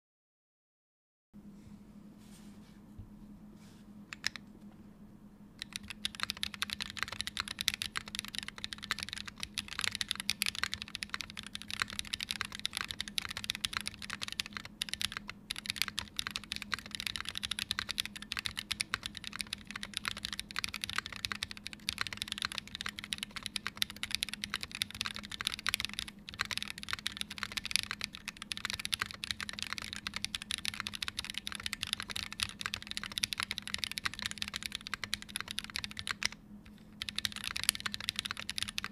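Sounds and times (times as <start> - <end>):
fast typing on mechanical keyboard: 4.1 - 4.4, 5.6 - 36.4, 37.0 - 38.9.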